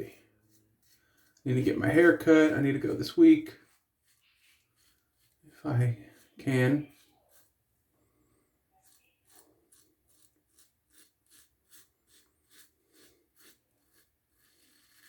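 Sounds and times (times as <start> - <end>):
razor scraping stubble: 0.0 - 7.6, 8.7 - 15.0.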